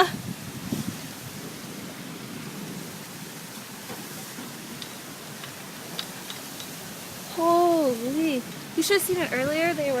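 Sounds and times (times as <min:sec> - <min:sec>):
wind and rain rushing: 0:00.0 - 0:10.0.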